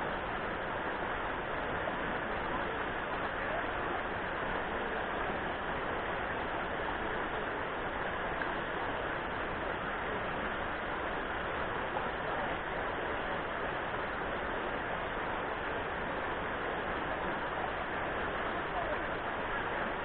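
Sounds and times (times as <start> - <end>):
water rushing over stones: 0.0 - 20.0.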